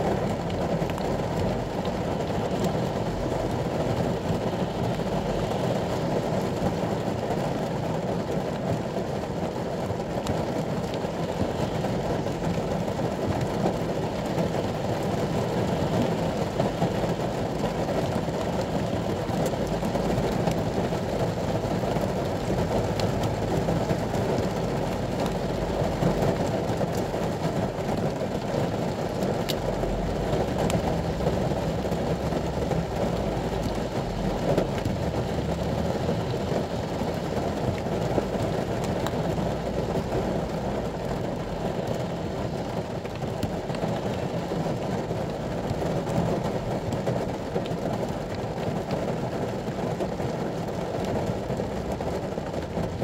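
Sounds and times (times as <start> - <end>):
rain on a vehicle roof: 0.0 - 53.0
raindrop taps: 8.2 - 53.0.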